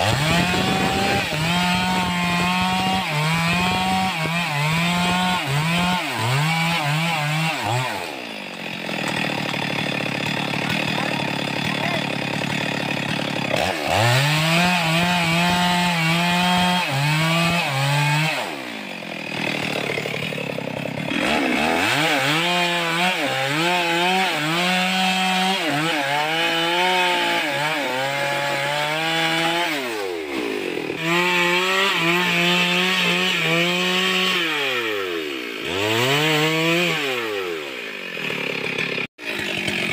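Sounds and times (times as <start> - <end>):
chainsaw cutting through a log: 0.0 - 39.9.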